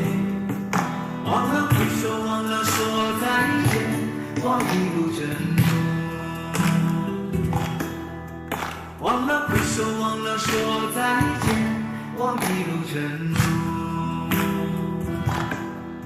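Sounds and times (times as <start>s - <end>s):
ballad music with steady beat: 0.0s - 16.0s.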